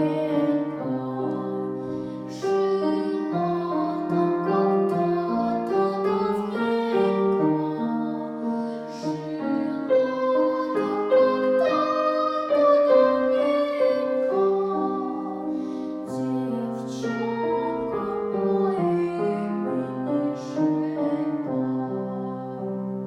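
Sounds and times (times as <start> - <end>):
girl singing slow song: 0.0 - 23.0
piano accompaniment: 0.0 - 23.0.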